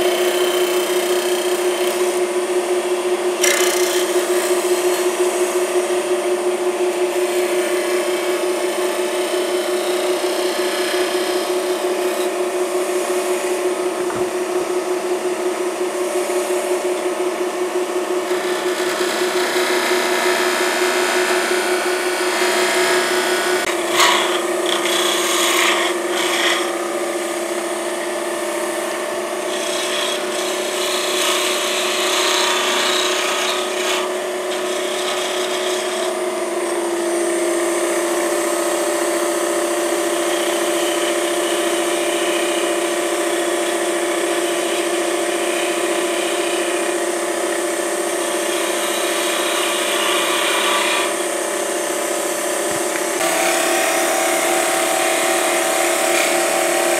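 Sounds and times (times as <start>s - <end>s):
turning tool scraping wood: 0.0s - 2.3s, 3.4s - 13.5s, 18.2s - 37.1s, 37.7s - 51.4s, 52.7s - 56.9s
wood lathe motor whine: 0.0s - 56.9s.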